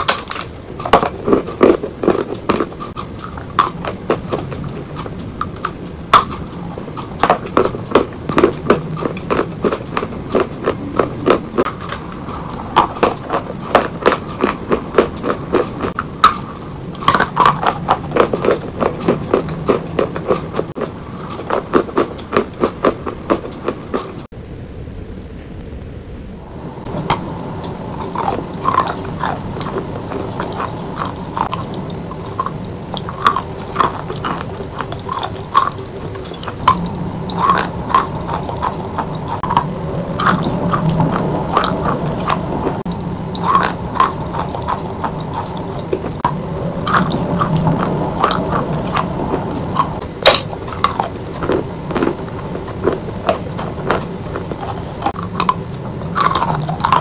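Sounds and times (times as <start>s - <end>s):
wet chewing: 0.0s - 24.3s, 26.5s - 57.0s.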